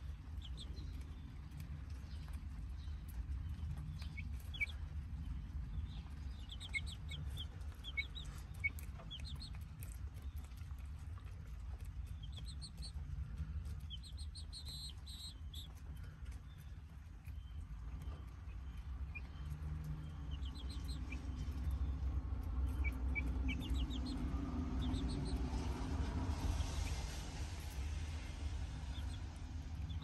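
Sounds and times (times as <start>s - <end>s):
beaks pecking at corn: 0.0s - 27.3s
chicks peeping: 0.0s - 30.0s
low rumble: 0.0s - 30.0s.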